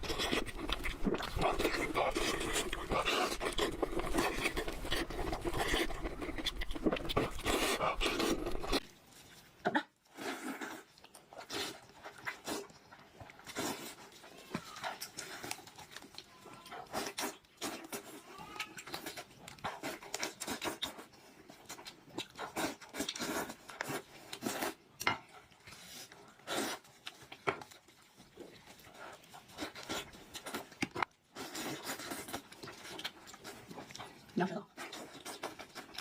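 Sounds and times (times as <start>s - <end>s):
wet chewing and lip-smacking: 0.0s - 36.0s.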